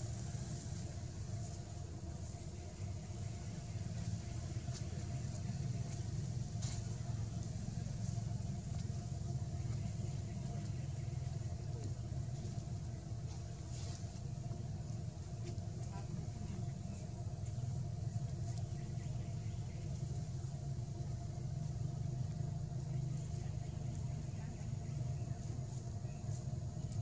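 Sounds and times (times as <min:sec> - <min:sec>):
low engine hum: 0:00.0 - 0:27.0.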